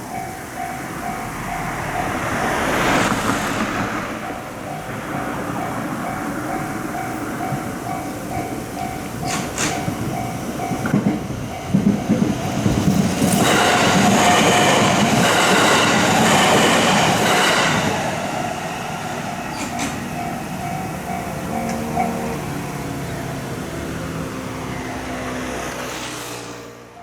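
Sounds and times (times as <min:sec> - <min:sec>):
crossing warning bell clanging: 0:00.0 - 0:25.8
electric train rumbling and rattling: 0:00.0 - 0:27.0.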